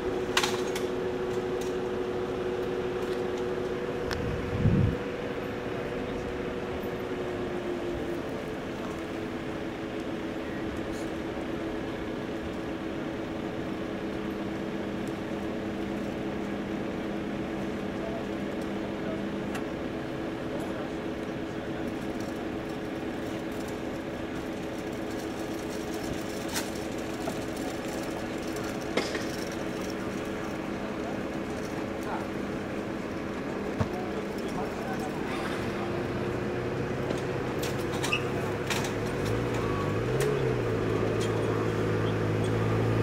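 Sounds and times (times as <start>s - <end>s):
steady mechanical hum: 0.0s - 43.0s.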